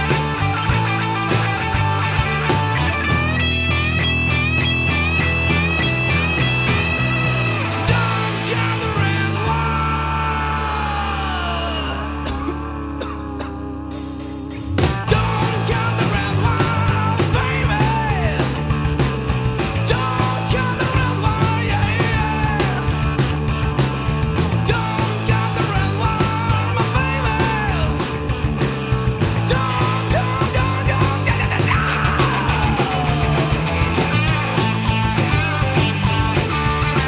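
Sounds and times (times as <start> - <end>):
bending lead guitar line: 0.0 - 37.0
drums and bass beat: 0.0 - 37.0
rock band playing: 0.0 - 37.0.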